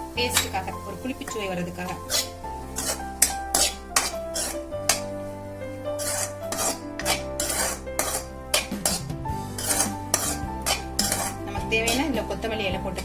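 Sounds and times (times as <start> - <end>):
background music: 0.0 - 13.0
spoon scraping in a pan: 0.2 - 5.2, 5.8 - 12.2.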